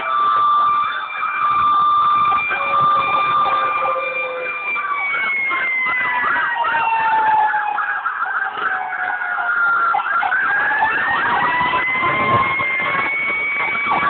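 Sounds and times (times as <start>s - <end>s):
long steady siren tone: 0.0s - 14.0s
siren yelp: 0.0s - 14.0s.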